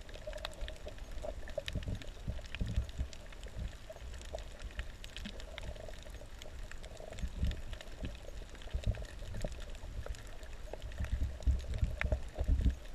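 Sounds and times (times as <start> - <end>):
faint underwater clicks: 0.0 - 12.9
underwater sloshing: 0.0 - 12.9.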